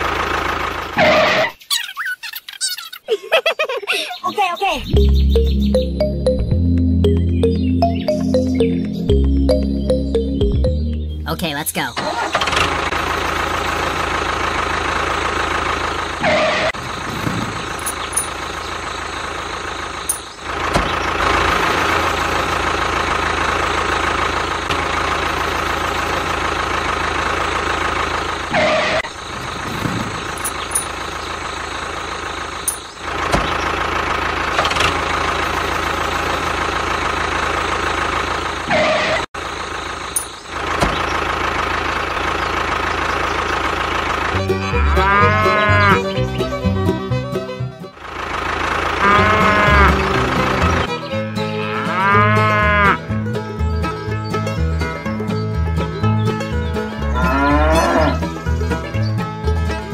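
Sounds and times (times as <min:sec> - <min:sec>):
tractor engine running: 0:00.0 - 0:01.9, 0:04.4 - 0:59.9.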